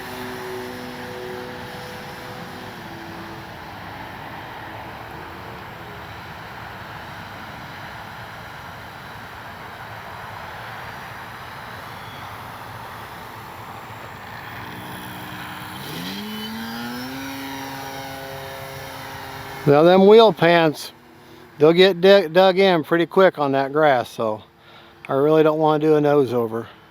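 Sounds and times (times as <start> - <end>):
model plane propeller whirring: 0.0 - 23.1.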